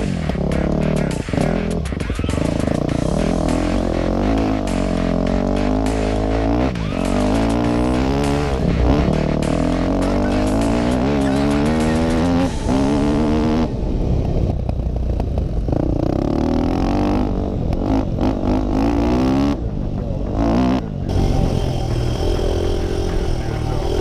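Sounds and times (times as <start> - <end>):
dirt bike engine revving: 0.0 - 14.0, 14.7 - 24.0.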